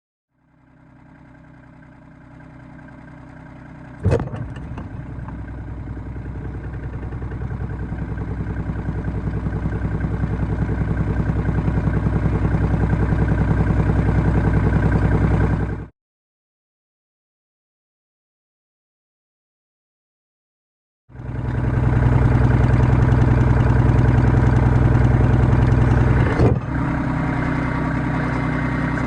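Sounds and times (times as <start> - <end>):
tractor diesel engine running: 0.4 - 15.9, 21.1 - 29.0.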